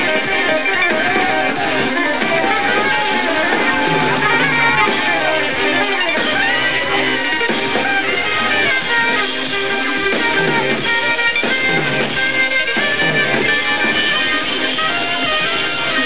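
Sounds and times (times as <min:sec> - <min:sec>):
loud live concert music: 0:00.0 - 0:16.0.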